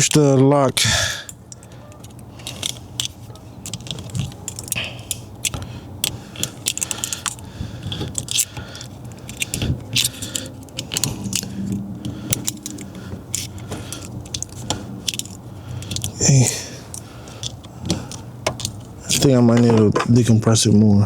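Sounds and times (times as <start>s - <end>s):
metallic clicking and scraping: 0.0s - 20.4s.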